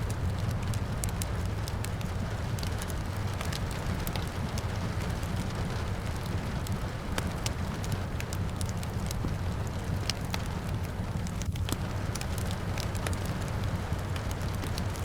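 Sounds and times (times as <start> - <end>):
fire low rumble: 0.0 - 15.0
rain hiss: 0.0 - 15.0
wood fire crackling: 0.0 - 15.0.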